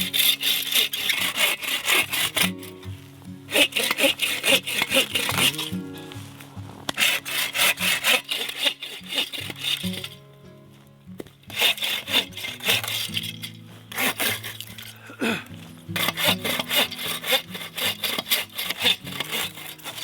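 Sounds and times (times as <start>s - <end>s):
hand saw cutting wood: 0.0s - 10.3s, 11.2s - 20.0s
background music: 0.0s - 20.0s.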